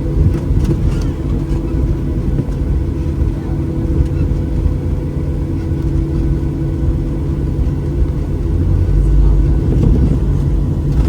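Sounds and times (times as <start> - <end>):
aircraft cabin rumble while taxiing: 0.0 - 11.0.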